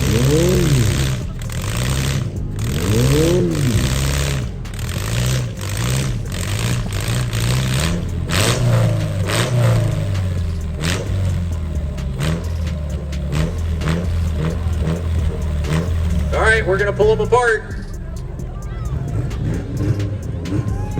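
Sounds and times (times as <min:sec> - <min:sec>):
car engines revving: 0:00.0 - 0:20.9
sharp bangs: 0:00.0 - 0:20.9.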